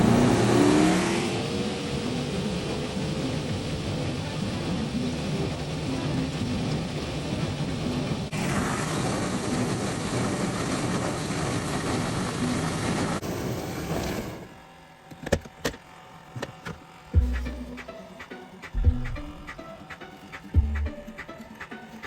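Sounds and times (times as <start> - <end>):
washing machine running: 0.0 - 15.0, 15.9 - 22.0.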